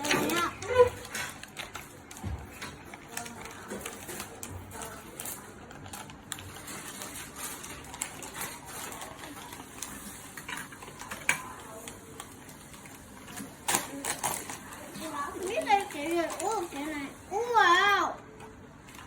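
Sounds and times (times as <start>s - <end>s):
plastic wrapper crackling: 0.3s - 17.2s.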